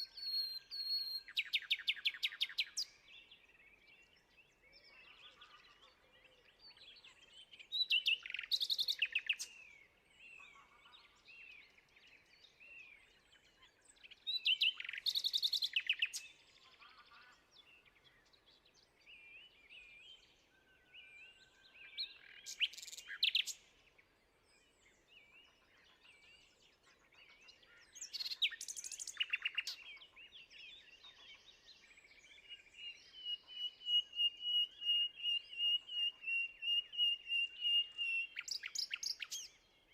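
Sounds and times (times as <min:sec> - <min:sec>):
bird's loud rapid song: 0:00.0 - 0:39.9
quiet bird chirps: 0:00.0 - 0:39.9.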